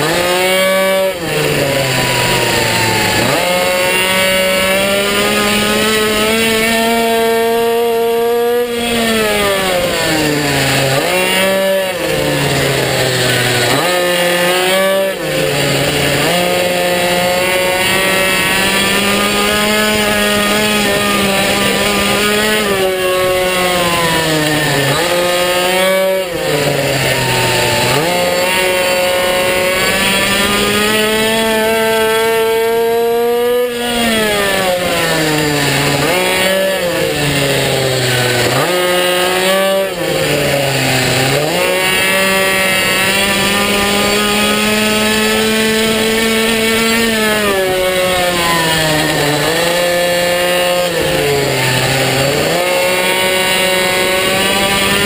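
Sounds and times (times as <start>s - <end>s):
minibike engine revving: 0.0s - 55.0s.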